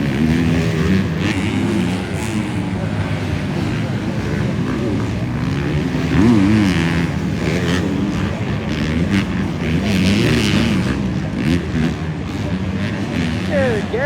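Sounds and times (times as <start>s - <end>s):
motocross bikes racing: 0.0s - 14.0s.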